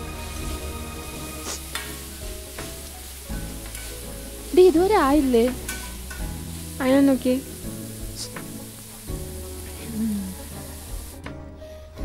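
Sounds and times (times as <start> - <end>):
noodles sizzling: 0.0 - 11.3
soft background music: 0.0 - 12.0.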